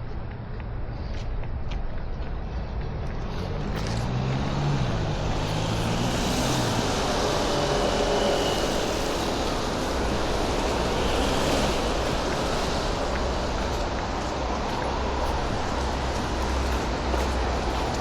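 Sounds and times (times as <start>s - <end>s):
vehicle engine hum: 0.0s - 18.0s
passing motor traffic: 2.3s - 18.0s.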